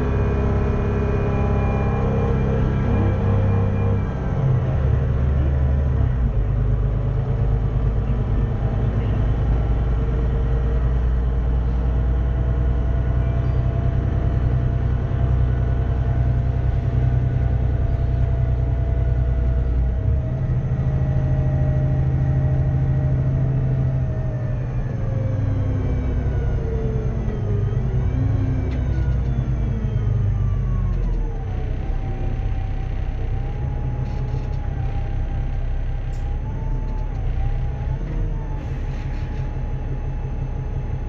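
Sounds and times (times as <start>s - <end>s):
diesel bus engine rumbling: 0.0s - 41.0s.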